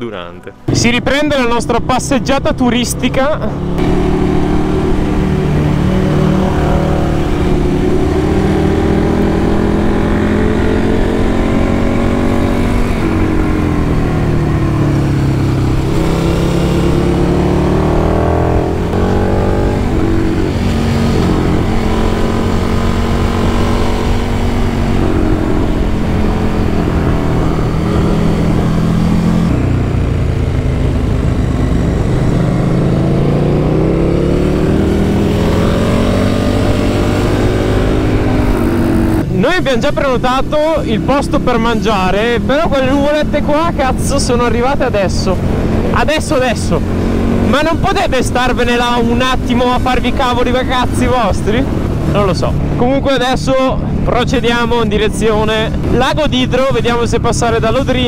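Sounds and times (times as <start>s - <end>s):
motorcycle engine revving through gears: 0.7s - 58.0s.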